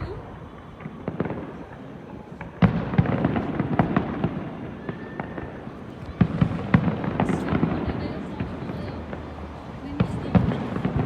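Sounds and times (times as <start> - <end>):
fireworks bangs and crackling pops: 0.0 - 11.0.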